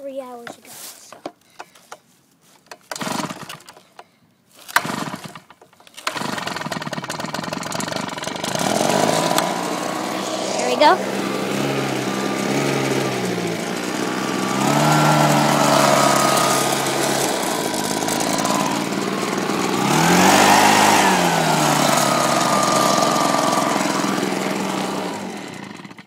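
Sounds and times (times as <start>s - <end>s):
lawn mower engine running: 2.9s - 3.6s, 4.7s - 26.0s.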